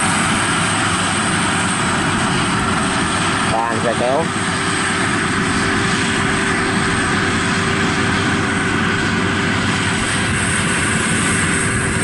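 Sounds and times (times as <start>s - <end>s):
combine harvester diesel engines droning: 0.0s - 12.0s.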